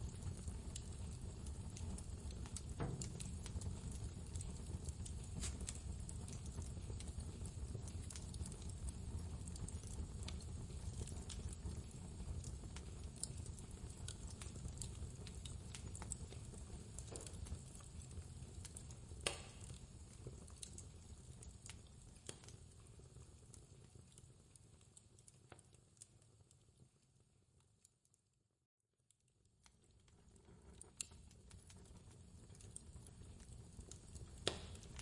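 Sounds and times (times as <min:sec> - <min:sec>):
wood fire crackling: 0:00.0 - 0:28.0, 0:29.1 - 0:35.0.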